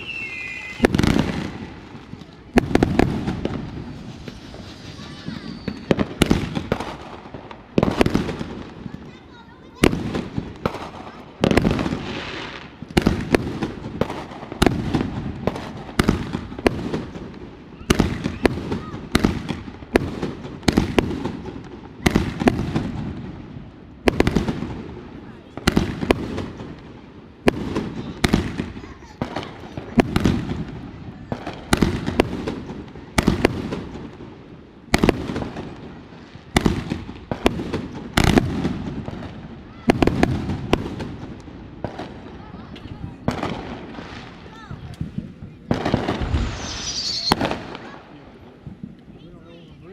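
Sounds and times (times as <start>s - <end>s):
fireworks bangs: 0.0s - 49.8s
fireworks crackling hiss: 0.0s - 49.9s.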